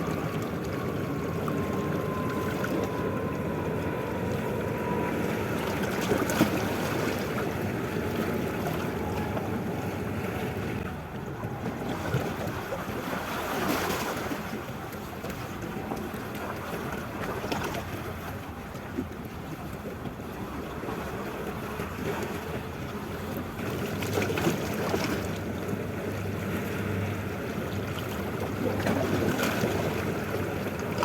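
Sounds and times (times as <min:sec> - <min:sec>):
water lapping against boat hull: 0:00.0 - 0:31.0.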